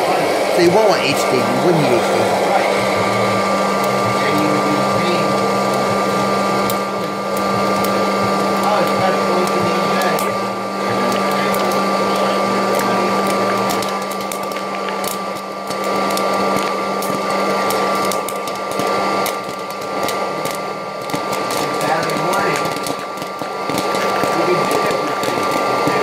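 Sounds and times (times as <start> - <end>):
popcorn popper fan whirring: 0.0 - 26.0
popcorn kernels popping: 3.6 - 26.0.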